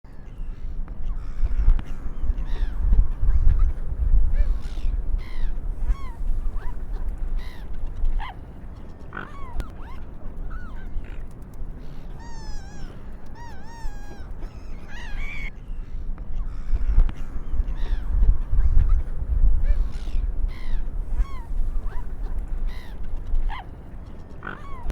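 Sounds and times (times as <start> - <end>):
seagulls and swans calling: 0.1 - 24.9.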